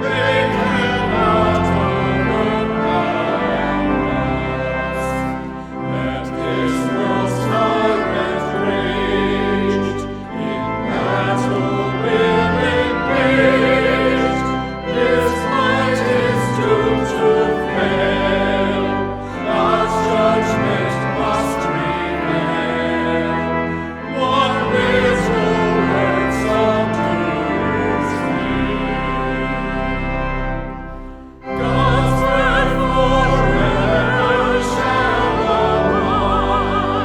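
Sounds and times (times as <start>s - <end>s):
instrumental accompaniment: 0.0s - 37.0s
voices singing church music: 0.0s - 37.0s.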